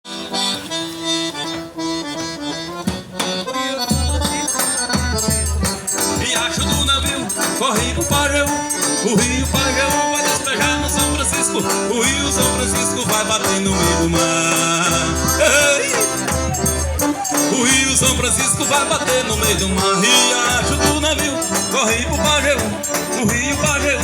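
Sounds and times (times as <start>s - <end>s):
accordion melody: 0.0s - 24.0s
low bass drum beat: 2.9s - 24.0s
shaker rhythm: 2.9s - 24.0s.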